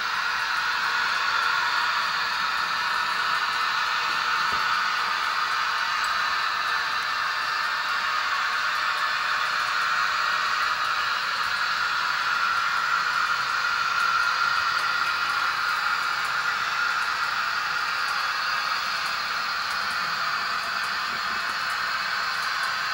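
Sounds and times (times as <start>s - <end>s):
model trains whirring on rails: 0.0s - 22.9s.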